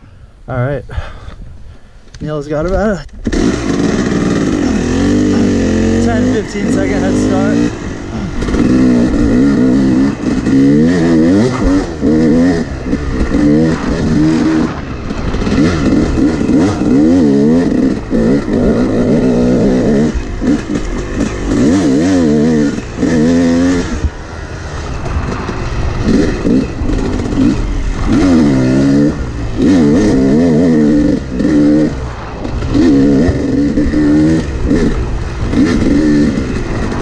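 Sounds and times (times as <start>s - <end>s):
dirt bike engine revving: 2.4s - 37.0s.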